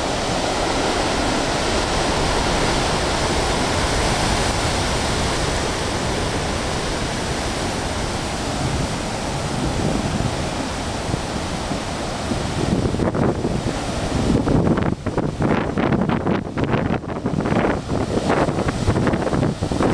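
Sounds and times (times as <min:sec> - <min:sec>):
ocean waves crashing on rocks: 0:00.0 - 0:19.9
wind buffeting microphone: 0:00.0 - 0:19.9.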